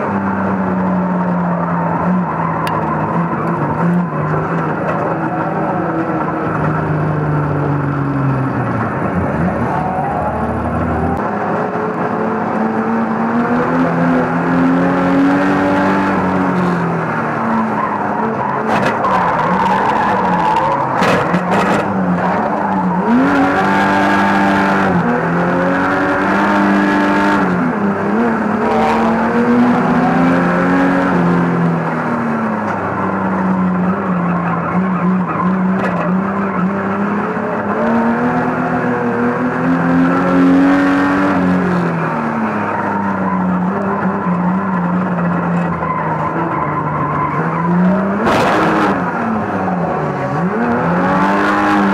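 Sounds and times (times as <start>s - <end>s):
racing car engine revving: 0.0s - 51.9s.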